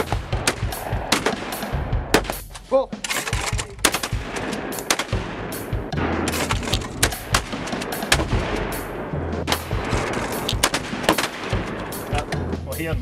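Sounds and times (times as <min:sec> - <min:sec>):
pistol shots hitting steel: 0:00.0 - 0:05.3, 0:06.2 - 0:08.8, 0:09.5 - 0:12.0
shotgun shots: 0:00.0 - 0:12.2
background music: 0:00.0 - 0:13.0.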